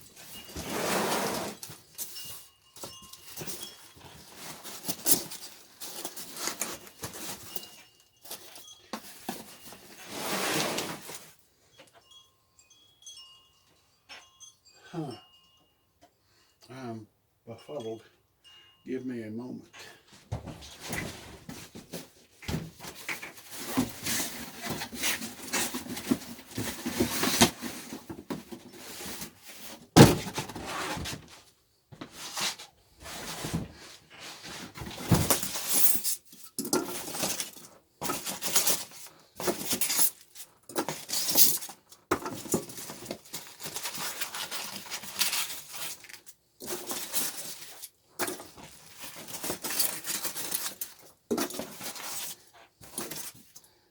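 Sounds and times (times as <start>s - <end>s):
packaging rustling and clattering: 0.0s - 11.4s, 20.5s - 31.5s, 32.1s - 53.7s.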